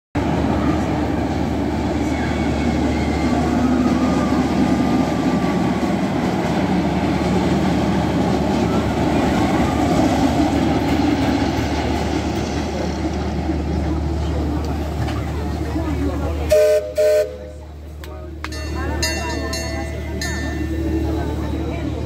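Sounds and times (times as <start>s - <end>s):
train rumble and clatter: 0.2s - 22.0s.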